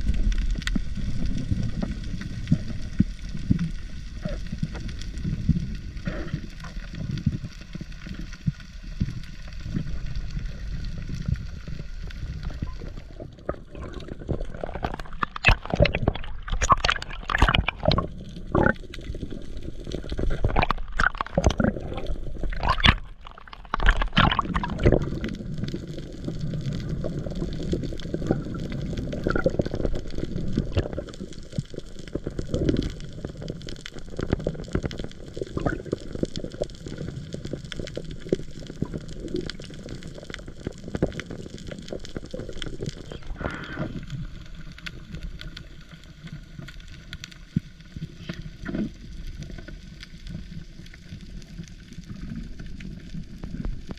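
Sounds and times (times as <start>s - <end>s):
sea water sloshing and gurgling: 0.0s - 53.9s.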